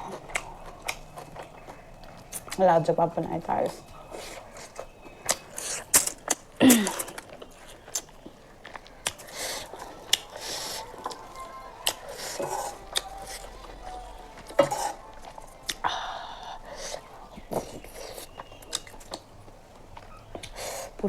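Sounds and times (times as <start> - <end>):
chewing and lip smacks: 0.0 - 3.0, 3.6 - 21.0.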